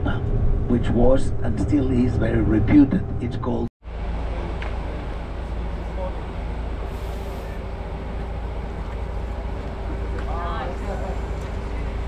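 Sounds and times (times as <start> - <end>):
coach engine and road rumble: 0.0 - 12.0
constant hum: 0.0 - 12.0.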